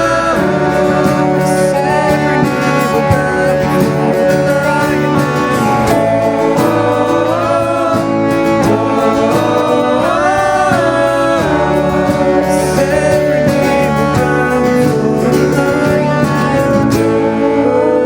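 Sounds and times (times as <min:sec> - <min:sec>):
guitar accompaniment: 0:00.0 - 0:18.0
sustained gliding melody: 0:00.0 - 0:18.0.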